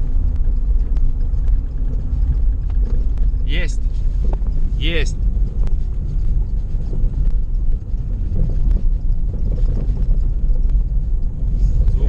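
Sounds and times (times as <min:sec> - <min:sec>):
car cabin road rumble: 0:00.0 - 0:12.0
suspension knocking: 0:00.0 - 0:12.0.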